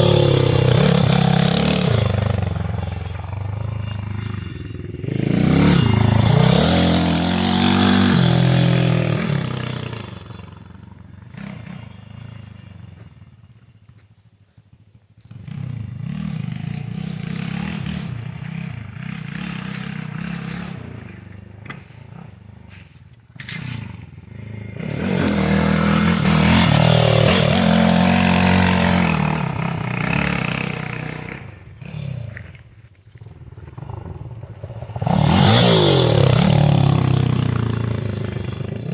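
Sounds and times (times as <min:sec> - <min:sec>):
motorbike engine revving: 0:00.0 - 0:13.9, 0:14.9 - 0:38.9.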